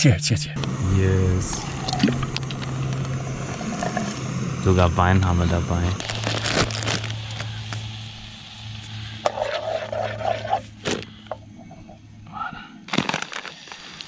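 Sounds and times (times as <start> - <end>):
camping stove burning: 0.6 - 14.0.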